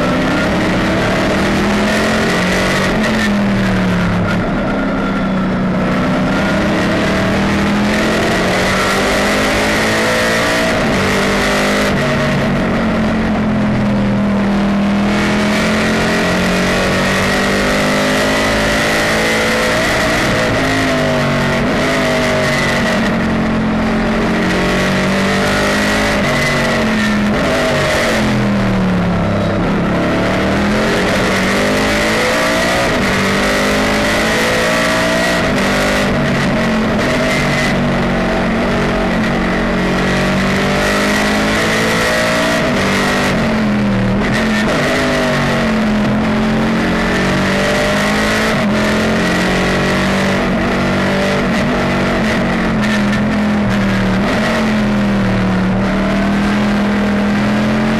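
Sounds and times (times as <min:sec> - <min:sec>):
race car engine running hard: 0:00.0 - 0:57.9
steady high whine: 0:00.0 - 0:57.9.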